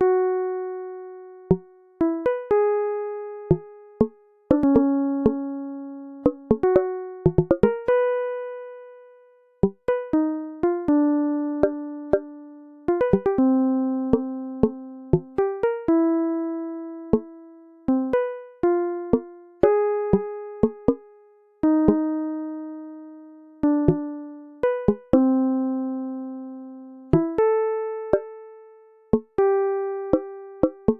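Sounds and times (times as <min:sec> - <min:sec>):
slow sparse keyboard melody: 0:00.0 - 0:30.9.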